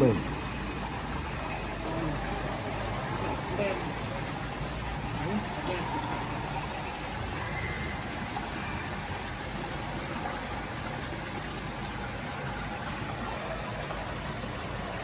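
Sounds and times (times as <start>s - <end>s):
fish churning water surface: 0.0s - 15.0s
running water and aeration: 0.0s - 15.0s.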